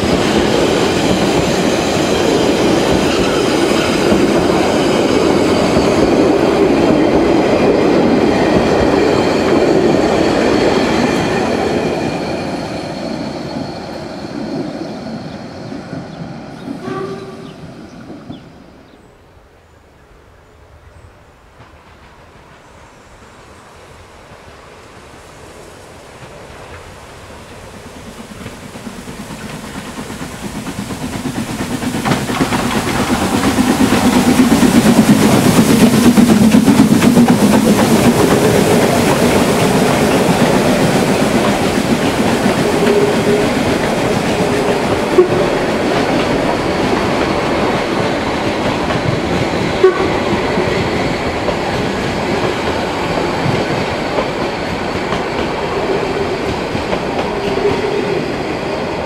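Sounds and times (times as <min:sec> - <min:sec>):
steam locomotive working uphill: 0:00.0 - 0:59.0.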